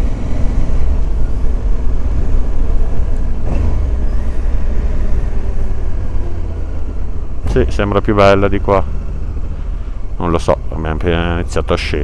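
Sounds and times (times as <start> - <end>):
motorcycle engine hum: 0.0 - 12.0.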